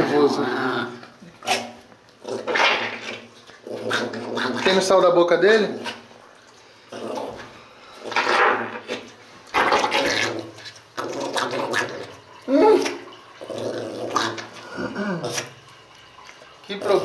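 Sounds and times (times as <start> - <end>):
dog throaty vocal sound: 0.0 - 4.9, 6.8 - 15.6, 16.7 - 17.0.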